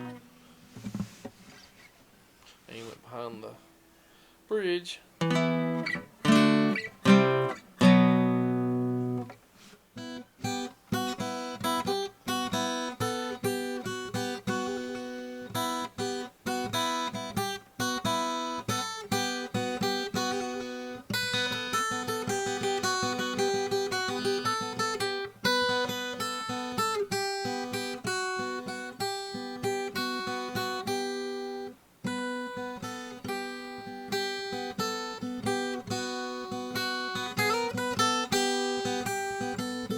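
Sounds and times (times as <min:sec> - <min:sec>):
acoustic guitar strummed chords: 0:00.0 - 0:01.2, 0:05.2 - 0:39.9
acoustic guitar picked notes: 0:00.0 - 0:01.9, 0:02.7 - 0:39.9.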